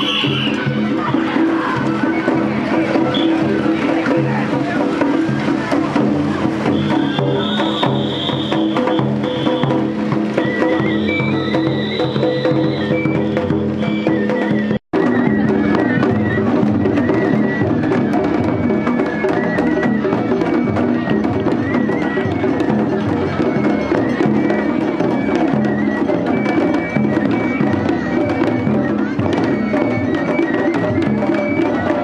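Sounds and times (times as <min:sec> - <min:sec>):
drums in busy rhythm: 0:00.0 - 0:32.0
flute melody: 0:00.0 - 0:32.0.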